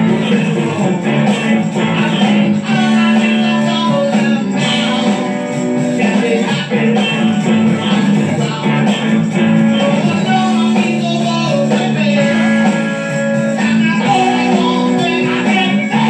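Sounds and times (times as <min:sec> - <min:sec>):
rock band playing: 0:00.0 - 0:16.0
strummed guitar chords: 0:00.0 - 0:16.0.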